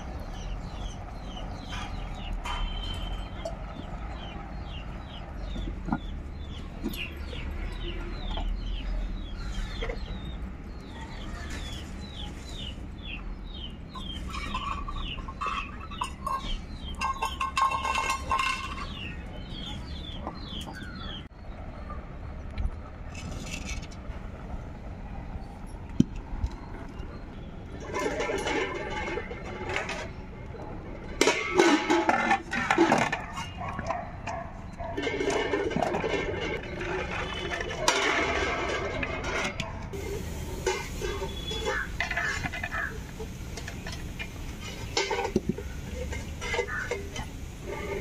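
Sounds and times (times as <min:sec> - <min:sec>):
birds chirping: 0:00.0 - 0:23.7, 0:24.4 - 0:48.0.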